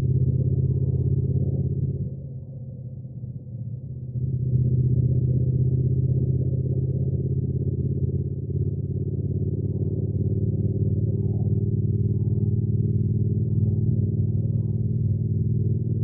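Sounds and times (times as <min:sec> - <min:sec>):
motorcycle engine running: 0:00.0 - 0:02.2, 0:04.2 - 0:16.0.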